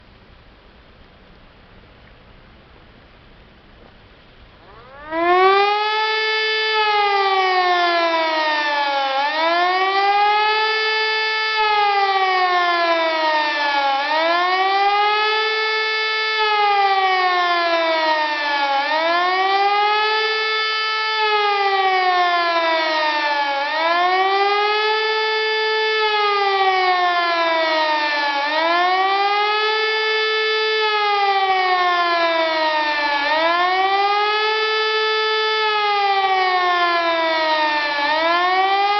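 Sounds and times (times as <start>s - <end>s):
warning siren wailing: 4.5s - 38.9s.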